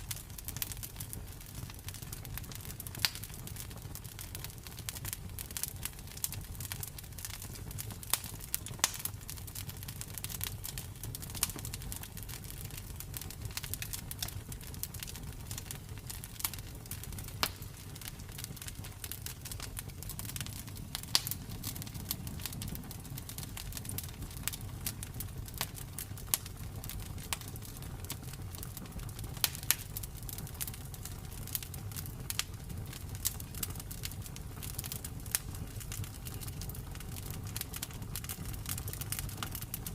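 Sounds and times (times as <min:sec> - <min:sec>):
low rumble of flames: 0:00.0 - 0:39.9
wood crackling and popping: 0:00.0 - 0:39.9.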